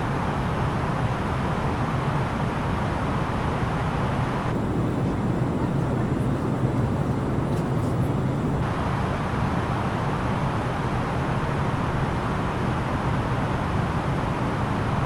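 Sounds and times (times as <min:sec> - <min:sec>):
aircraft engines humming: 0:00.0 - 0:15.0.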